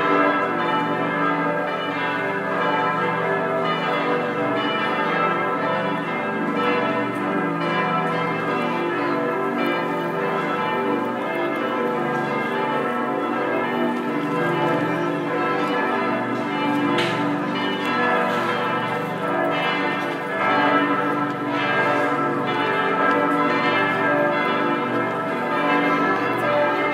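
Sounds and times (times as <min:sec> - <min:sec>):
church bells ringing: 0:00.0 - 0:26.9.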